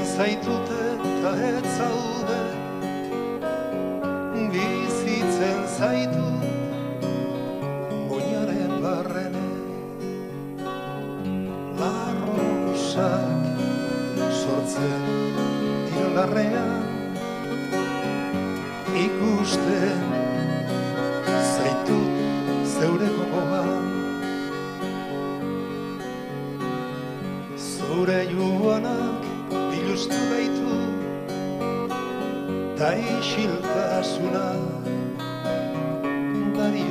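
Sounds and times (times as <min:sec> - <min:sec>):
accordion holding long notes: 0:00.0 - 0:10.0, 0:11.0 - 0:31.0
keyboard sustained chords: 0:00.0 - 0:36.9
strummed acoustic guitar: 0:00.0 - 0:36.9
vibrato melody line: 0:00.0 - 0:36.9.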